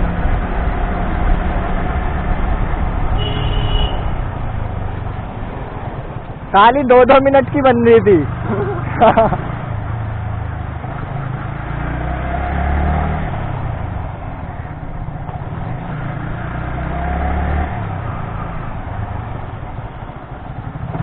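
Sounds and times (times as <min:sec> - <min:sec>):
motorcycle engine rumble: 0:00.0 - 0:11.6, 0:13.1 - 0:21.0.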